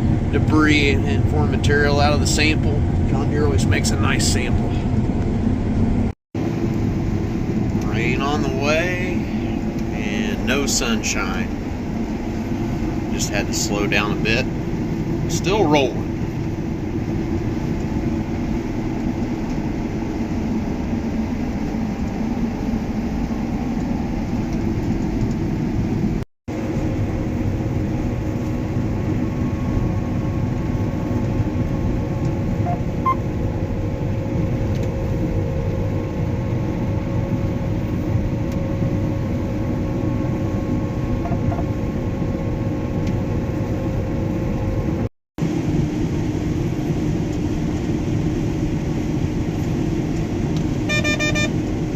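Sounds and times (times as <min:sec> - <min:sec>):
combine harvester droning: 0:00.0 - 0:51.9.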